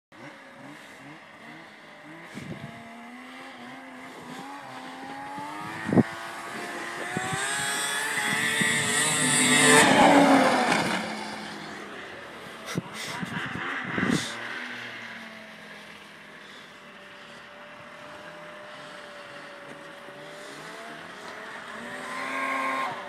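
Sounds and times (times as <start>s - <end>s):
snowmobile engine revving: 0.2s - 23.0s.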